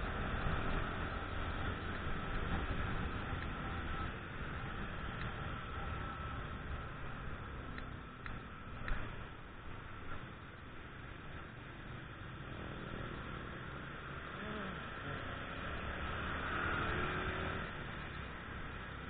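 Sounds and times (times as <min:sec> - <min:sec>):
motorcycle riding in traffic: 0:00.0 - 0:19.0.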